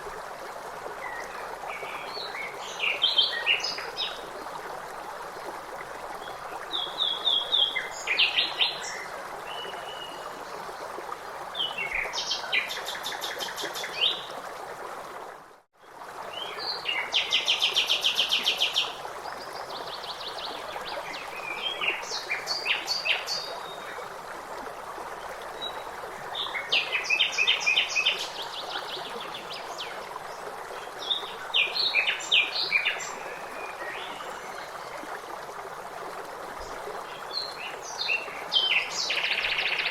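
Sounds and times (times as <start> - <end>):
running stream water: 0.0 - 39.9.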